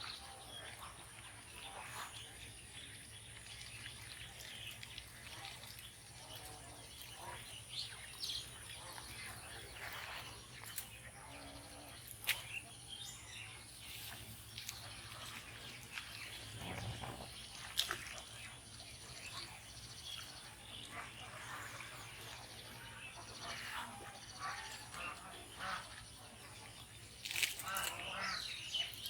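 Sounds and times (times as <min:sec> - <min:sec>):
rural outdoor ambience: 0:00.0 - 0:29.0.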